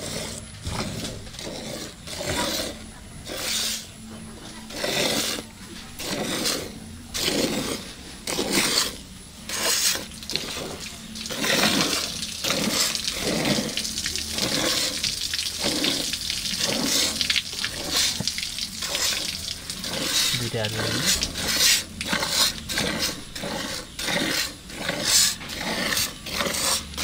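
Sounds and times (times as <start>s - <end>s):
milk squirting into metal bucket: 4.7s - 27.0s.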